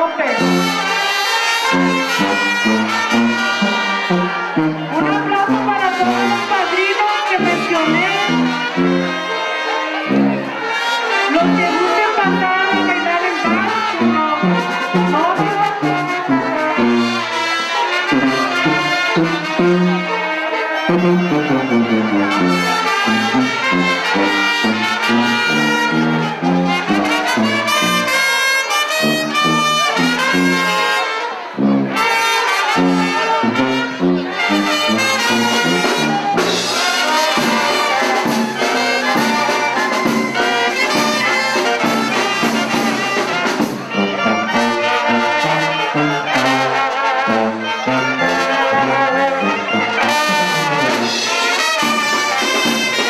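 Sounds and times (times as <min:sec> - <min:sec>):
brass band playing dance music: 0:00.0 - 0:53.0
tuba bass line: 0:00.0 - 0:53.0.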